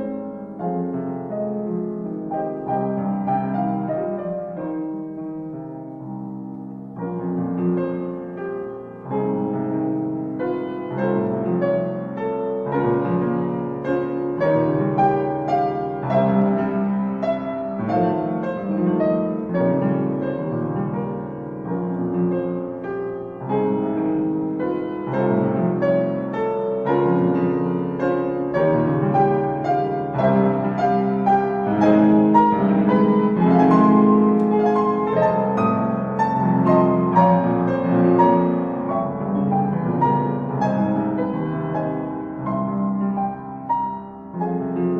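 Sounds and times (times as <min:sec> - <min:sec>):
piano piece: 0:00.0 - 0:44.9.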